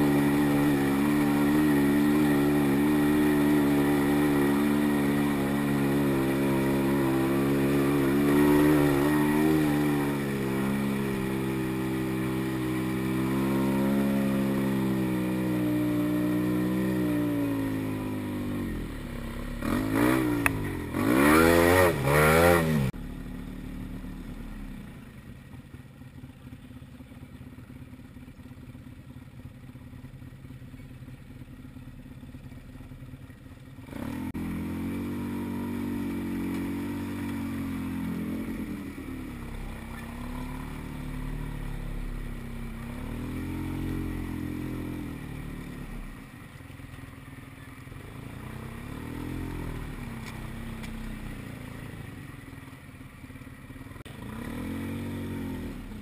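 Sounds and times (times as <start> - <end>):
atv engine revving: 0.0 - 25.2, 30.1 - 46.6, 47.6 - 56.0.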